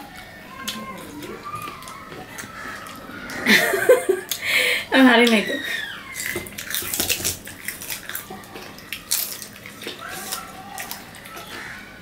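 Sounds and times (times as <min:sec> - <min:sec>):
people chewing crunchy fruit: 0:00.0 - 0:04.5, 0:05.2 - 0:12.0.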